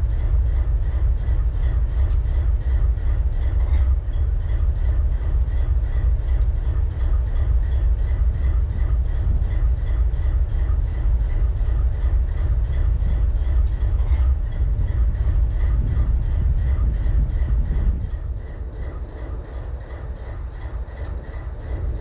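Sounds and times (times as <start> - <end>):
locomotive engine idling with misfire: 0.0 - 22.0.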